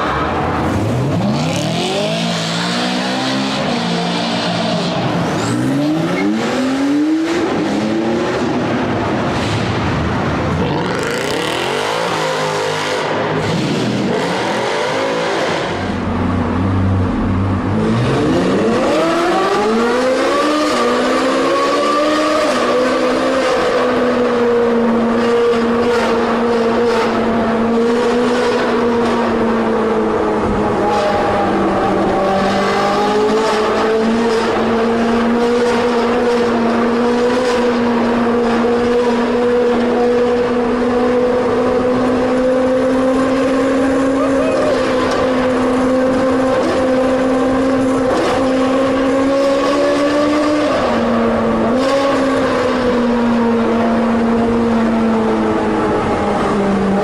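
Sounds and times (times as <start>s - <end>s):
sports car engine at high revs: 0.0s - 57.0s.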